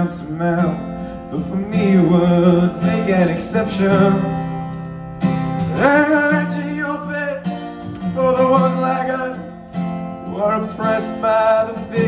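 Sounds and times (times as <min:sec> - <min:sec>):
man singing: 0:00.0 - 0:04.4, 0:05.7 - 0:12.0
strummed acoustic guitar: 0:00.0 - 0:12.0.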